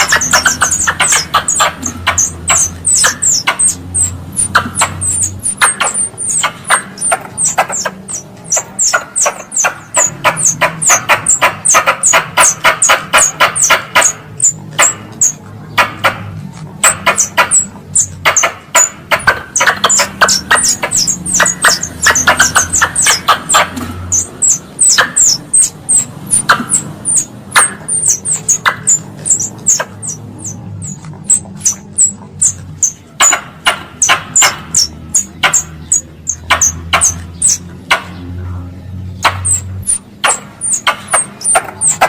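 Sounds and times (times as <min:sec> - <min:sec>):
squirrel chipping: 0:00.0 - 0:42.0.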